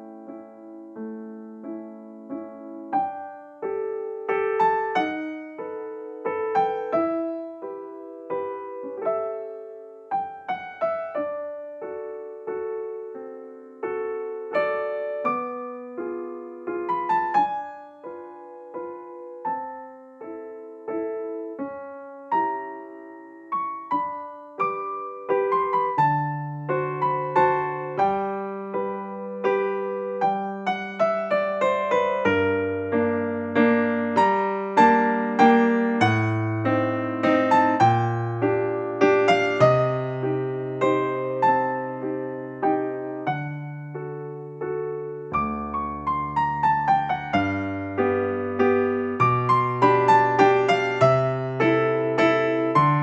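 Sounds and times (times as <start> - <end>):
slow gentle piano music: 0.0 - 53.0.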